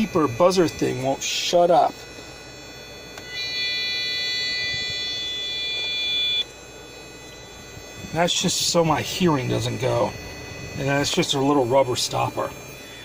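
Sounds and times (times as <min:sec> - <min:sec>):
motherboard buzzer long beep: 0:00.0 - 0:13.0.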